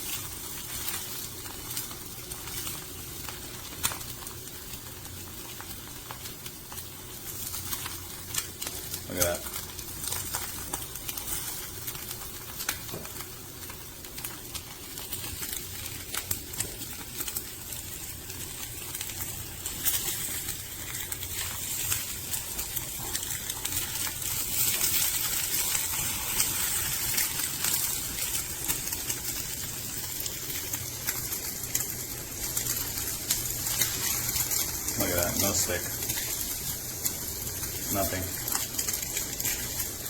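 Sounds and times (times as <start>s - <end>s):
eggs sizzling in a pan: 0.0s - 40.0s.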